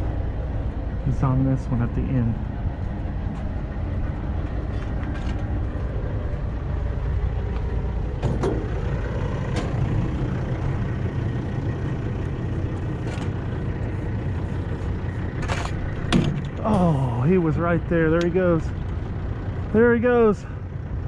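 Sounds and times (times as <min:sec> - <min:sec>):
truck engine rumbling: 0:00.0 - 0:21.0.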